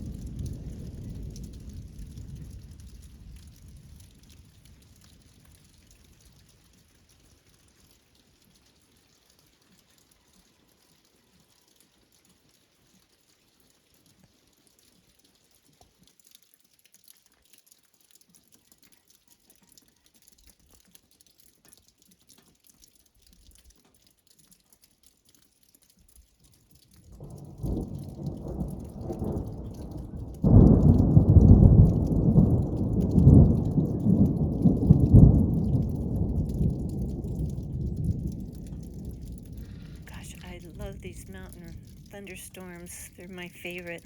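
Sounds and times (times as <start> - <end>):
raindrops pattering: 0.0 - 44.0.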